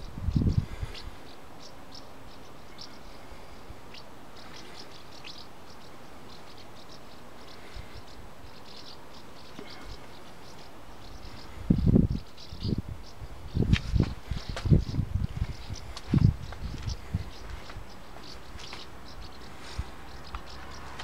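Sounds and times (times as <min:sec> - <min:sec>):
faint background noise: 0:00.0 - 0:21.0
small birds chirping: 0:00.0 - 0:21.0.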